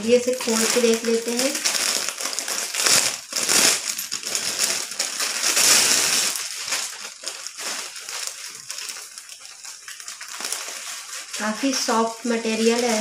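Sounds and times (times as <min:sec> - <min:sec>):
plastic packaging crinkling: 0:00.0 - 0:13.0
wrapper and cloth rustling: 0:00.0 - 0:13.0.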